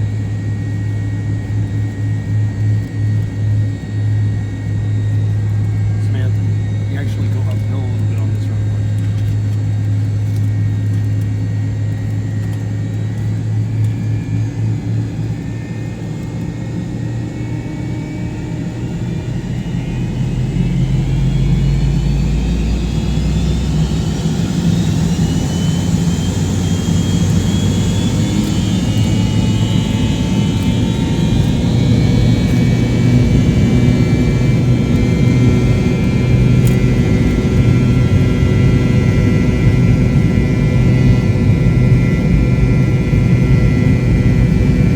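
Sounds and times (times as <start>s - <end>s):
jet engines spooling up: 0.0s - 44.9s.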